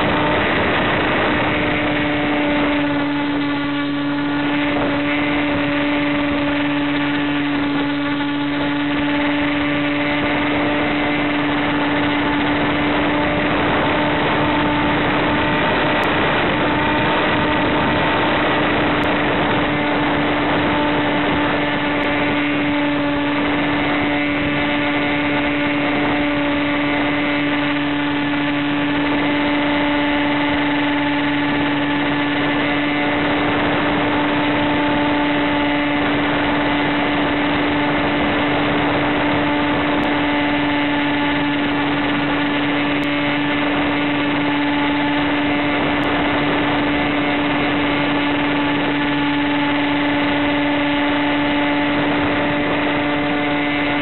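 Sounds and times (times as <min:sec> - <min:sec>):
electric motor and propeller humming: 0:00.0 - 0:54.0
wind noise: 0:00.0 - 0:54.0.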